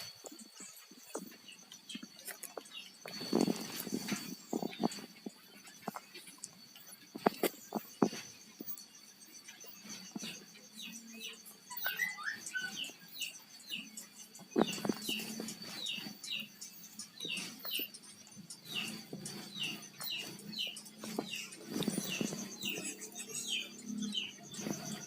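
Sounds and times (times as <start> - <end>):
small bird chirping: 0.0 - 25.0.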